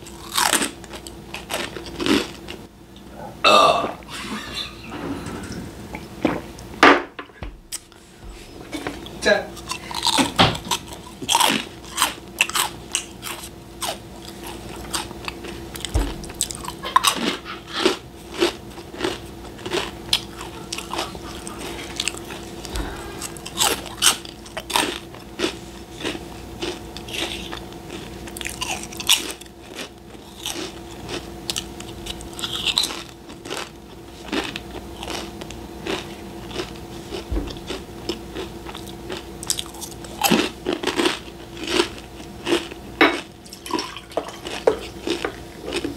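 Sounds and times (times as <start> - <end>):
chewing crunchy crackers: 0.0 - 2.7, 8.9 - 45.9
faint steady hum: 0.0 - 45.9.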